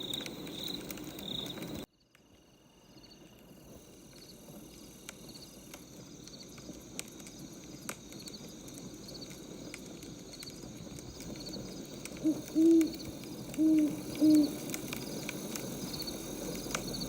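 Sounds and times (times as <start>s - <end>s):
firewood burning rush: 0.0s - 1.9s, 3.3s - 17.0s
crickets chirping: 0.0s - 17.0s
fire crackles: 0.0s - 17.0s.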